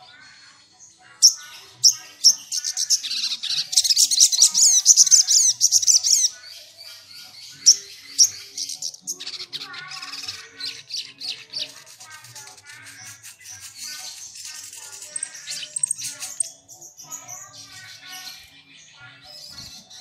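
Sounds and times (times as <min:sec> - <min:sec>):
sunbird singing high rapid chirps: 0:01.2 - 0:20.0.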